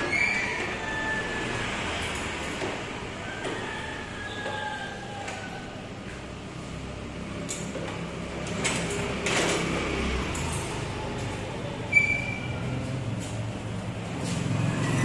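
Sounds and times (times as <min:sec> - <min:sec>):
scooter clunking and rattling: 0:00.0 - 0:15.0.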